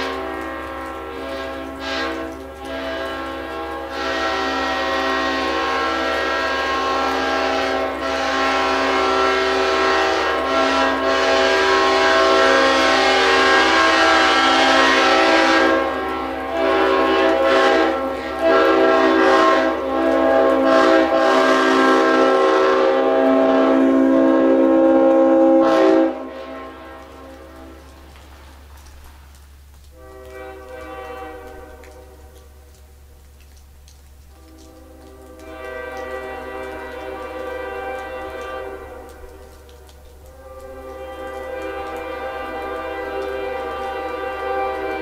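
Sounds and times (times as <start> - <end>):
train air horn blasts: 0.0 - 28.4, 29.9 - 33.0, 34.3 - 45.0.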